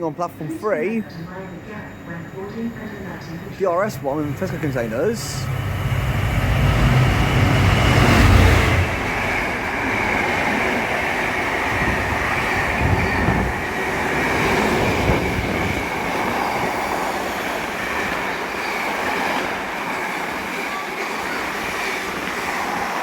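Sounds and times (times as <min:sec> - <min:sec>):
diesel locomotive engine rumble: 0:01.0 - 0:23.0
train wagons rolling on rails: 0:02.5 - 0:23.0.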